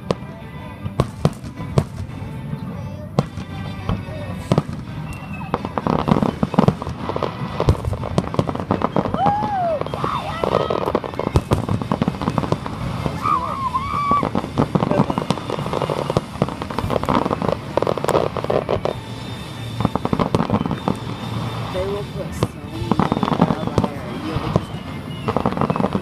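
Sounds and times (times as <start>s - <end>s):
fireworks bursts and bangs: 0.0s - 26.0s
fireworks crackling: 0.0s - 26.0s.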